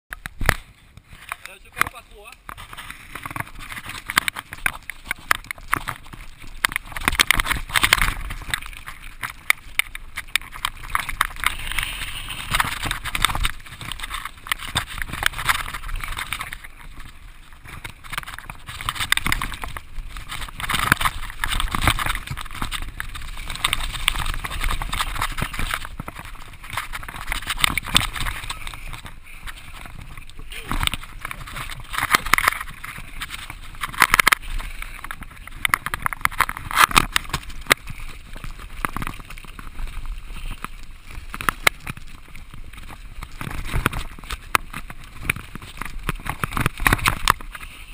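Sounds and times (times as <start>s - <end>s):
bike rattling over rocks: 0.1s - 47.9s
tyres on dirt: 0.1s - 47.9s.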